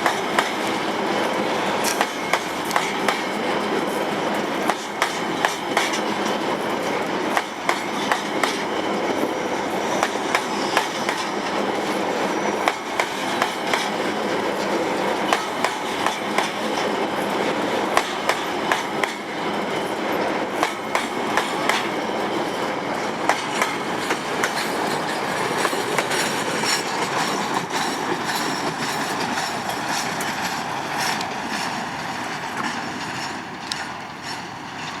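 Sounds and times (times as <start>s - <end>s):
freight wagons rumbling on rails: 0.0s - 35.0s
wheels clacking over rail joints: 0.0s - 35.0s.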